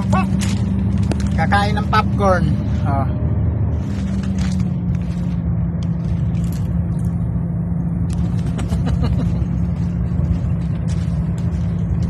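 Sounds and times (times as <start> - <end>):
vehicle engine drone in cab: 0.0 - 12.0.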